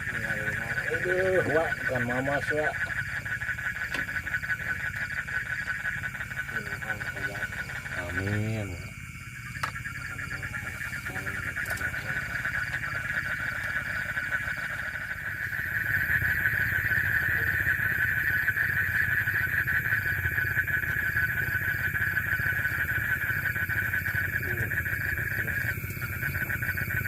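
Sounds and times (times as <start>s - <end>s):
night insects pulsing chorus: 0.0s - 27.0s.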